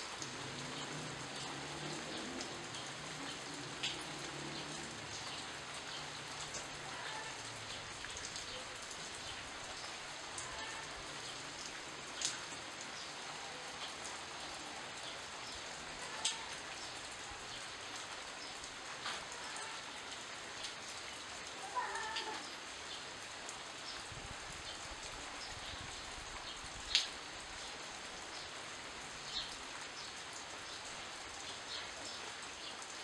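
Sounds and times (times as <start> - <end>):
raindrops ticking close by: 0.0 - 33.0
steady rain falling: 0.0 - 33.0.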